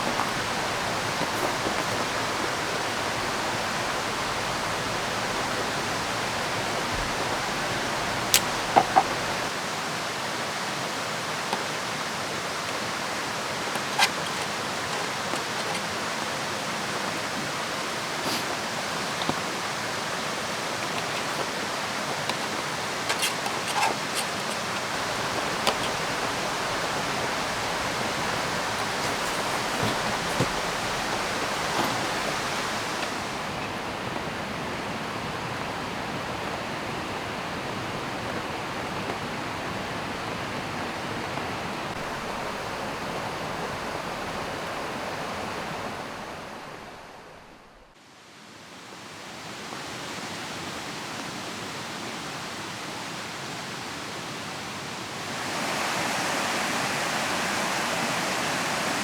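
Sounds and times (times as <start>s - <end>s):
rain falling: 0.0s - 48.0s
river rushing: 0.0s - 59.0s.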